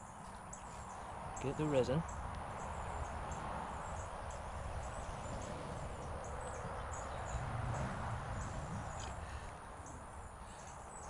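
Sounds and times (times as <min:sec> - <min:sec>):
high chirping bird or insect: 0:00.0 - 0:11.0
outdoor background hiss: 0:00.0 - 0:11.0.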